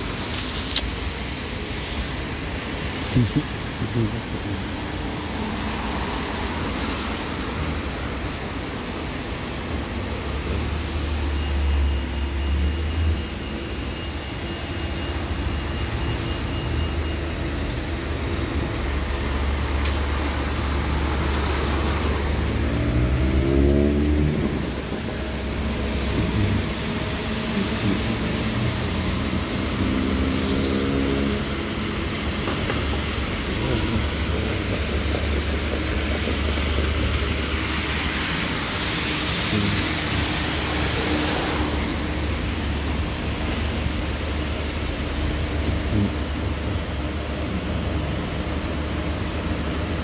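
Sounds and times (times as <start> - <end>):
tyre noise on wet road: 0.0 - 13.0, 15.0 - 50.0
bus accelerating: 0.0 - 50.0
bus engine rumble: 0.0 - 50.0.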